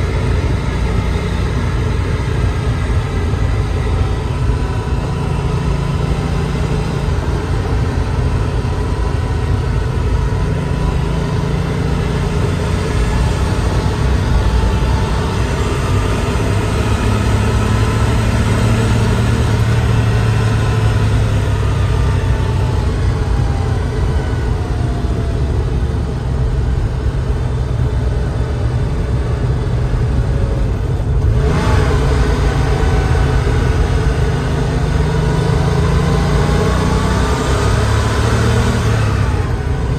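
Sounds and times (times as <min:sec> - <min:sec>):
car engine accelerating: 0:00.0 - 0:39.9
road noise: 0:00.0 - 0:39.9.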